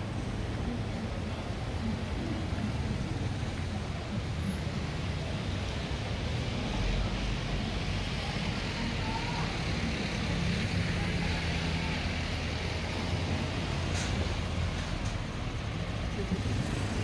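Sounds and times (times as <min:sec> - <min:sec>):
street traffic engines: 0:00.0 - 0:17.0.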